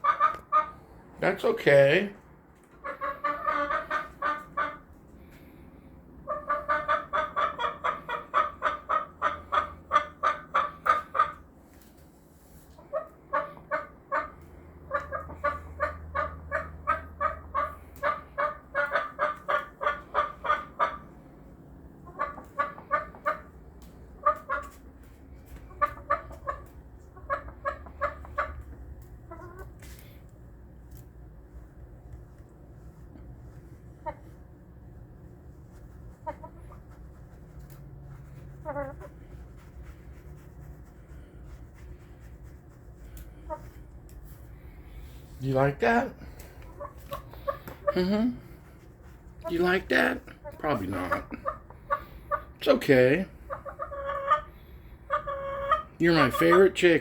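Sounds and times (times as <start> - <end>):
hen clucking: 0.0 - 2.0, 2.6 - 5.4, 6.1 - 11.6, 12.7 - 30.1, 33.0 - 57.0.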